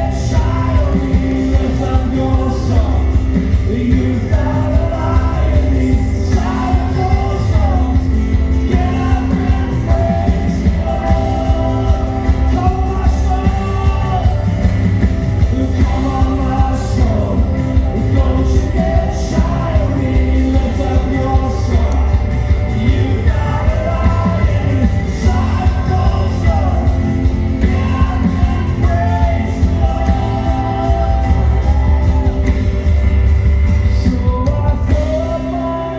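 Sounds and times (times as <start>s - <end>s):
band with bass and drums: 0.0s - 35.9s
person singing: 0.0s - 35.9s.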